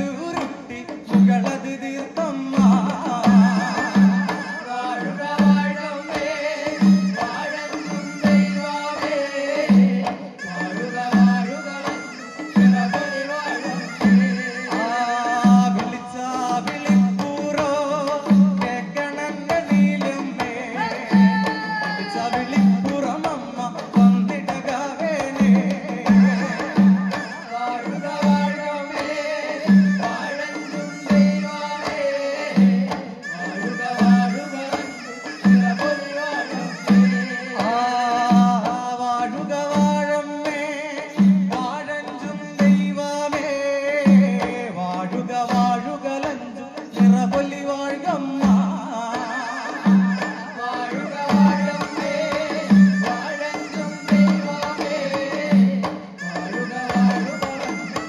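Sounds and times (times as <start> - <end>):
barrel drums beating: 0.0 - 58.0
male voices singing: 0.0 - 58.0.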